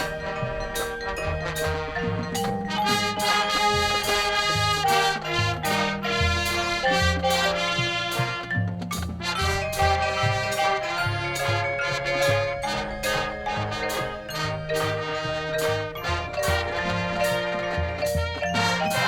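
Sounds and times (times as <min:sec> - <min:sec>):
drum hits: 0:00.0 - 0:19.0
marching band playing: 0:00.0 - 0:19.0
marimba and xylophone: 0:00.0 - 0:19.0.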